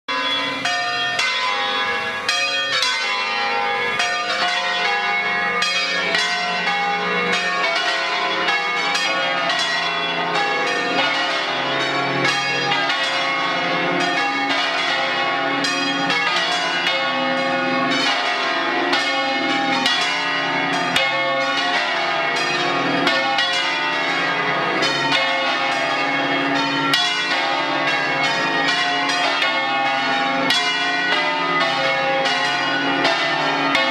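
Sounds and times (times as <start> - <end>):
church bells ringing: 0.1 - 33.9.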